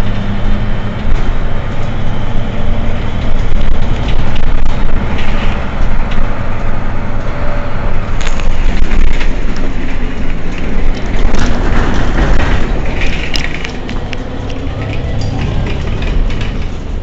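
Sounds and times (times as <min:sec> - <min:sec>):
broad rushing noise: 0:00.0 - 0:17.0
bus engine hum: 0:00.0 - 0:17.0.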